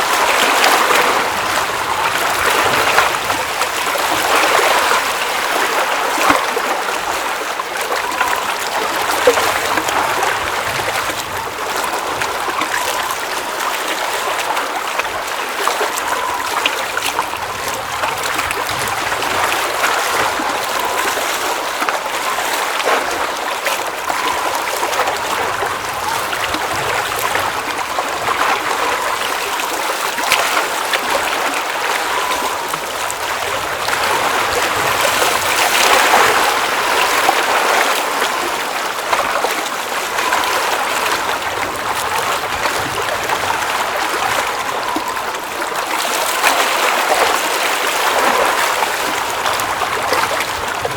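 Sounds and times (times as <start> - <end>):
small water splashes: 0.0 - 50.9
water babbling: 0.0 - 50.9.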